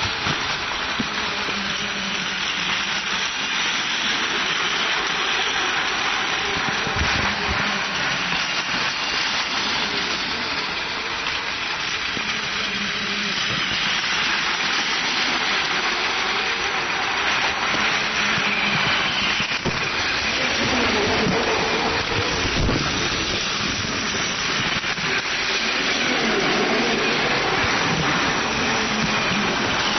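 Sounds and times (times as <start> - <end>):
plastic wheels rattling on track: 0.0 - 29.9
toy train motors whirring: 0.0 - 29.9.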